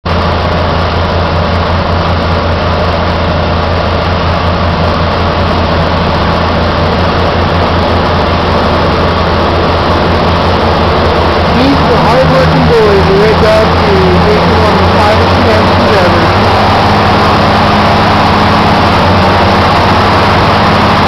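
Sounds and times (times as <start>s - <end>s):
drilling rig machinery running: 0.0s - 21.0s.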